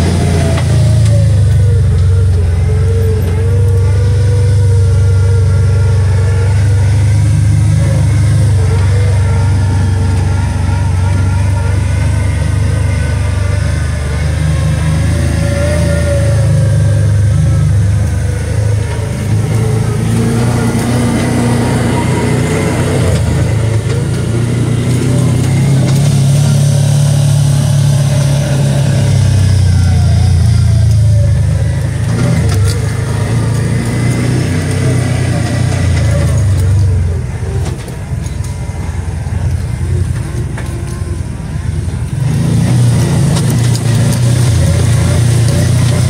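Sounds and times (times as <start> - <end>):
utility vehicle engine running: 0.0 - 46.0.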